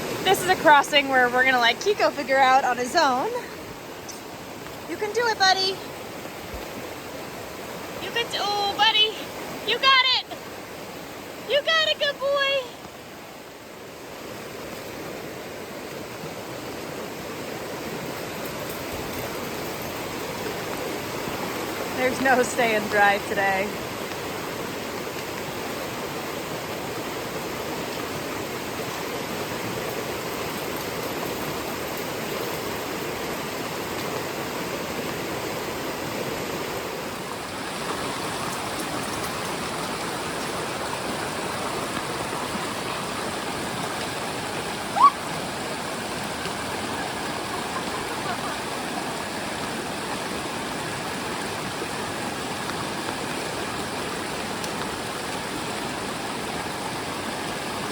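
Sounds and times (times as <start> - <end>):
rushing river water: 0.0 - 57.9.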